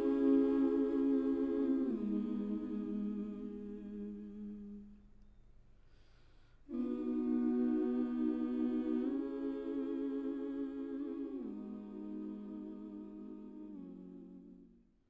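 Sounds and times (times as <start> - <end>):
a cappella hummed chords: 0.0 - 5.3, 6.6 - 15.0.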